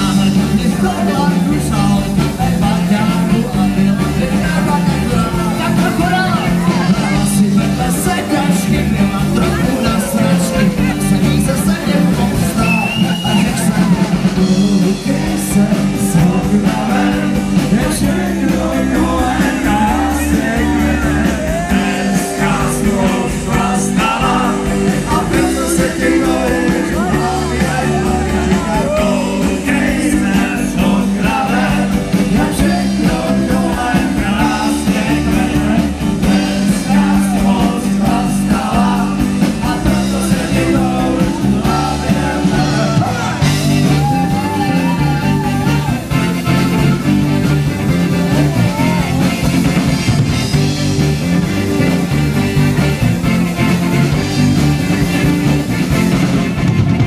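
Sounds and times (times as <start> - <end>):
male lead singer: 0.0 - 57.0
rock band with accordion: 0.0 - 57.0.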